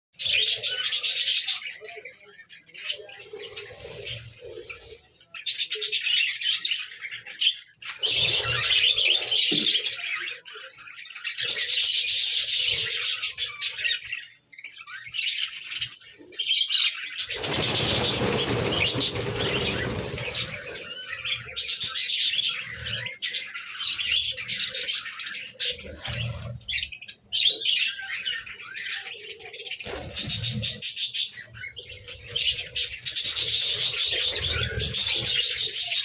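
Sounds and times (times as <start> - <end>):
budgerigars chattering and chirping: 0.2 - 36.0.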